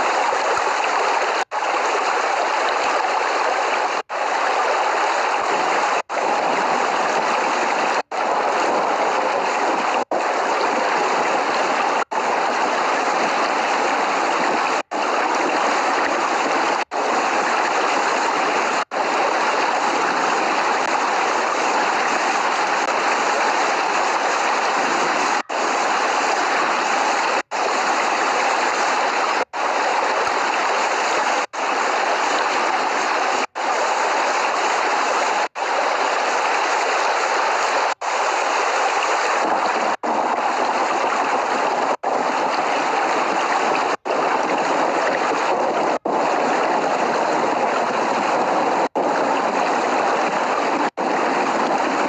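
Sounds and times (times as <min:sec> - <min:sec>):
rain rushing: 0:00.0 - 0:52.0.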